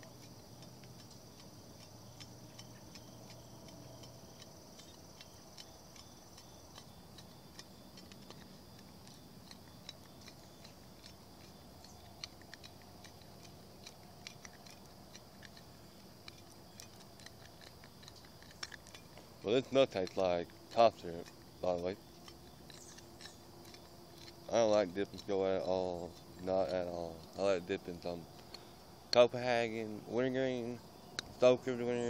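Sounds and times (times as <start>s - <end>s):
fingers handling small object: 0.0s - 29.2s
faint steady background: 0.0s - 32.0s.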